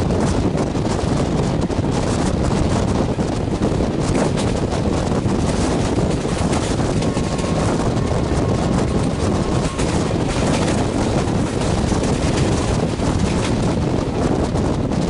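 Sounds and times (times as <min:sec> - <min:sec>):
train wheels roaring on rail: 0:00.0 - 0:15.0
wind buffeting microphone: 0:00.0 - 0:15.0.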